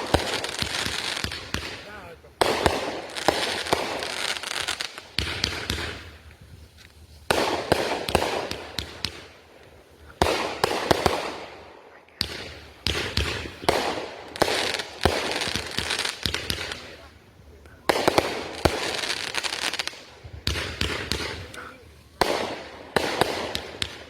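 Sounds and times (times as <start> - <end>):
fireworks bangs with crackling: 0.0 - 24.0.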